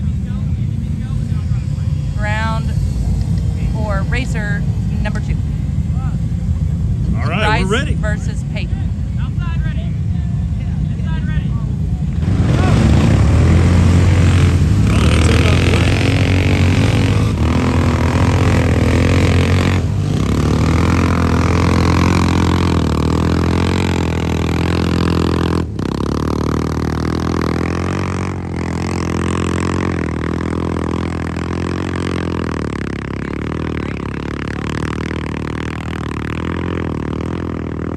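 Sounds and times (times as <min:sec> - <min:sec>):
atv engines under throttle: 0:00.0 - 0:37.9.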